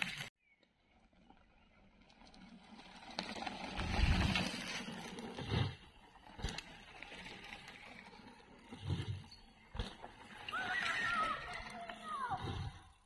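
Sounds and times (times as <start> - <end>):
bike tyres rolling on dirt: 0.0 - 13.0.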